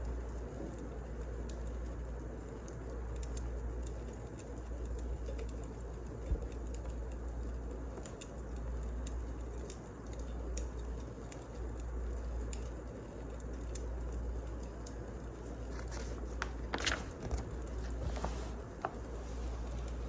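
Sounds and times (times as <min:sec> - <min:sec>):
steady low hum: 0:00.0 - 0:20.0
wood fire crackling: 0:00.0 - 0:20.0.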